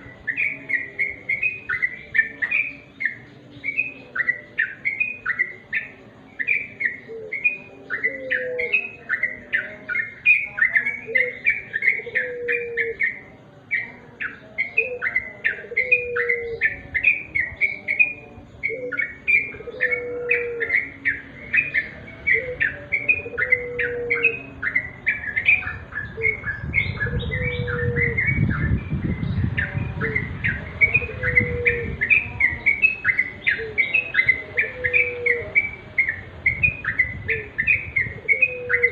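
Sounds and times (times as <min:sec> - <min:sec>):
lower bird call: 0:00.0 - 0:38.9.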